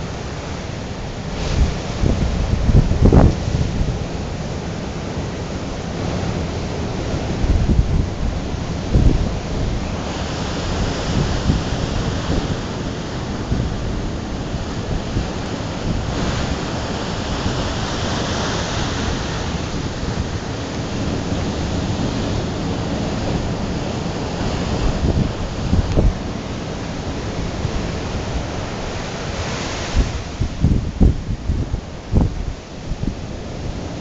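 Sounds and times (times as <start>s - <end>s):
surf breaking on beach: 0.0s - 34.0s
wind buffeting microphone: 0.0s - 34.0s.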